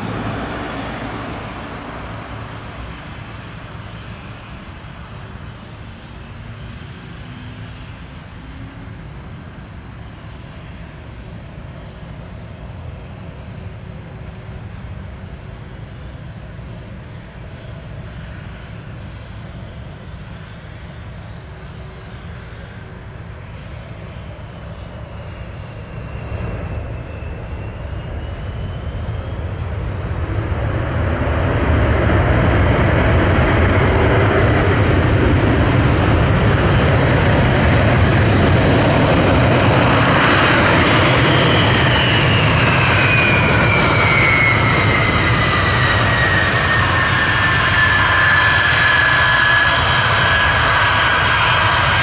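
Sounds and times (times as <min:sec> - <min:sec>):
high engine whine: 0:00.0 - 0:52.0
jet engines roaring: 0:00.0 - 0:52.0.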